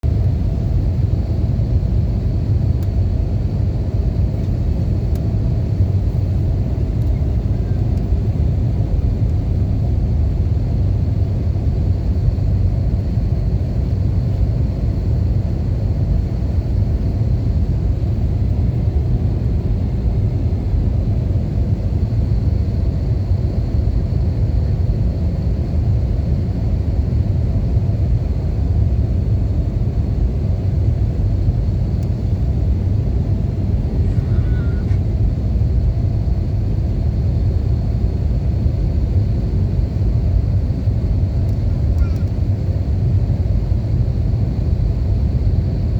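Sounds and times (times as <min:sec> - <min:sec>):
airplane low rumble: 0:00.0 - 0:45.9
faint high whine: 0:00.0 - 0:45.9.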